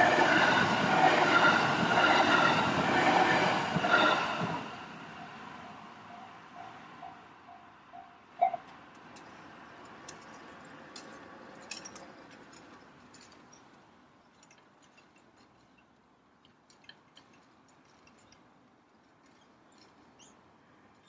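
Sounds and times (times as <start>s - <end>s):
soft outdoor noise: 0.0s - 21.0s.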